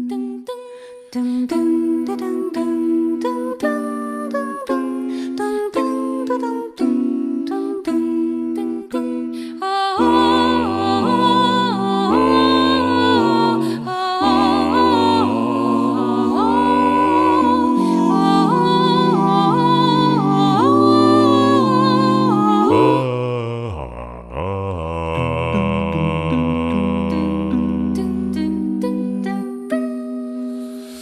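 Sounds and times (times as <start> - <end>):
a cappella group singing: 0.0 - 31.0.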